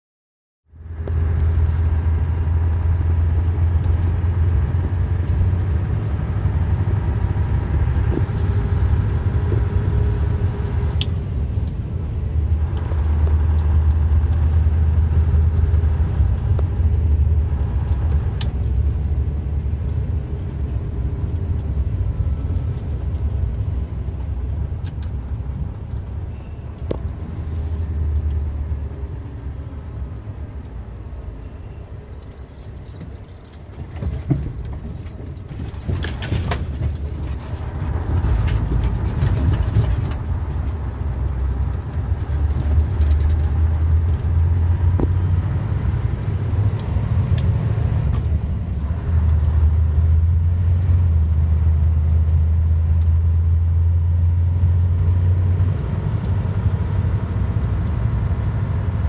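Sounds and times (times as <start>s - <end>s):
engine and tyre rumble: 0.6s - 59.0s.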